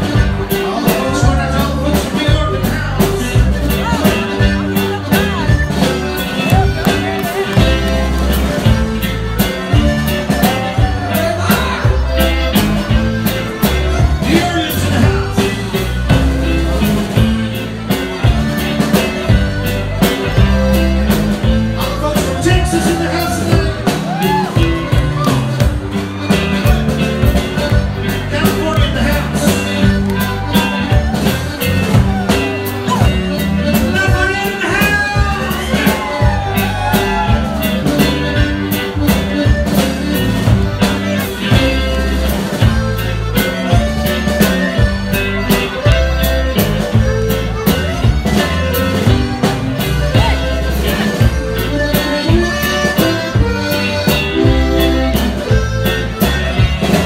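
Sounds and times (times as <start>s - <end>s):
button accordion melody: 0.0s - 57.0s
drum kit beat: 0.0s - 57.0s.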